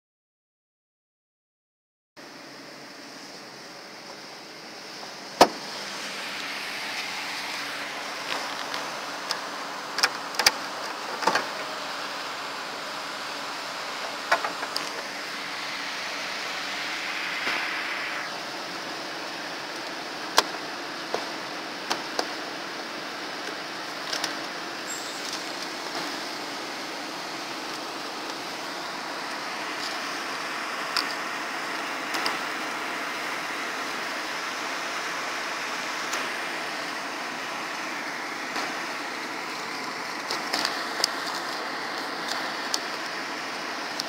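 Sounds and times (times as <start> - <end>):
steady background hiss: 2.2 - 44.0.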